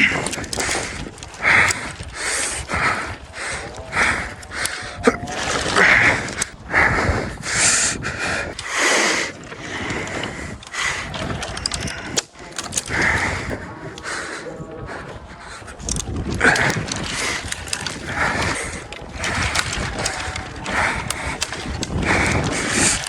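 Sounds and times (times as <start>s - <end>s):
man breathing hard: 0.0s - 23.0s.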